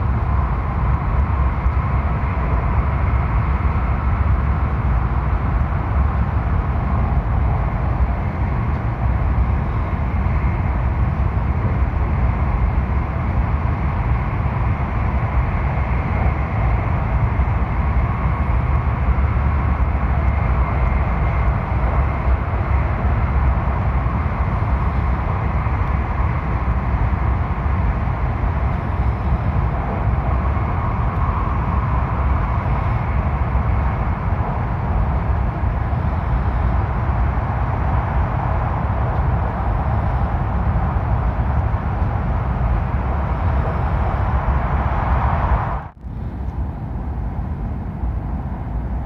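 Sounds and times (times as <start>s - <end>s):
train rumble and hiss from inside: 0.0s - 49.0s.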